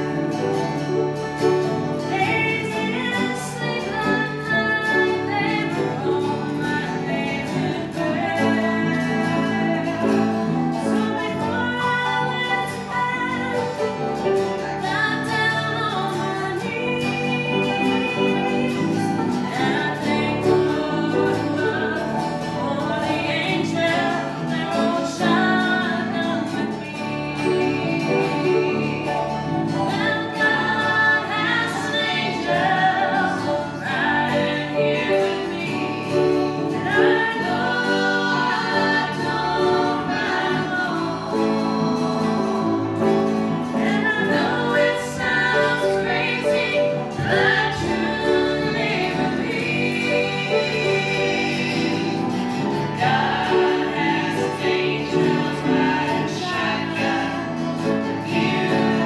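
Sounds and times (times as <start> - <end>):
group singing gospel: 0.0 - 59.0
instrumental accompaniment: 0.0 - 59.0.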